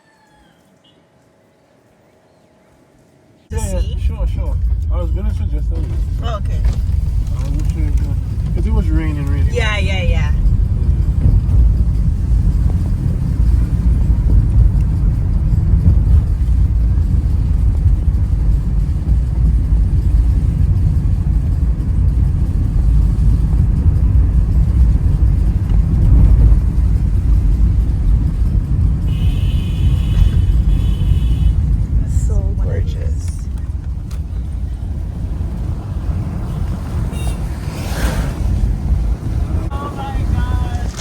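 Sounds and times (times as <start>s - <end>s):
vehicle rumbling: 0.0s - 41.0s.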